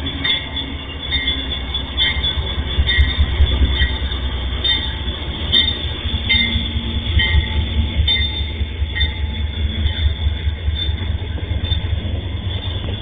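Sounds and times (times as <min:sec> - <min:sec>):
diesel locomotive rumble: 0:00.0 - 0:13.0
wheels chirping on rails: 0:00.0 - 0:13.0.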